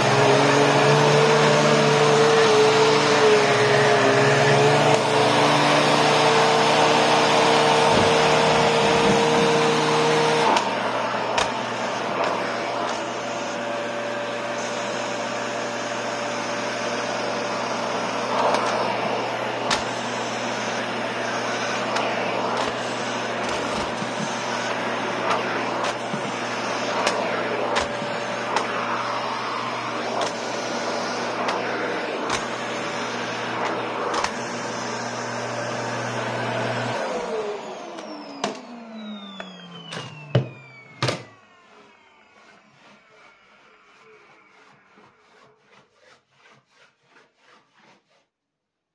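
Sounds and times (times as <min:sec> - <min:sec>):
vacuum cleaner running on carpet: 0:00.0 - 0:43.9
motor winding down whine: 0:00.0 - 0:45.6.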